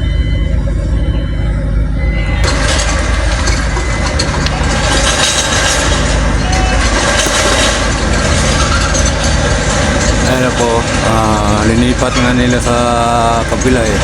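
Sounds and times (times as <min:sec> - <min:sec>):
continuous rushing noise: 0:00.0 - 0:14.0
heavy diesel engine running: 0:00.0 - 0:14.0.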